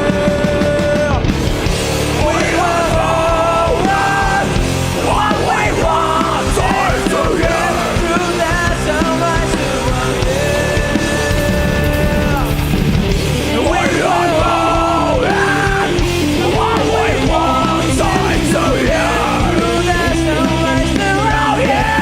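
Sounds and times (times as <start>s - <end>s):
bass and drums: 0.0s - 22.0s
distorted guitars: 0.0s - 22.0s
shouted vocals: 2.0s - 12.7s, 13.4s - 22.0s.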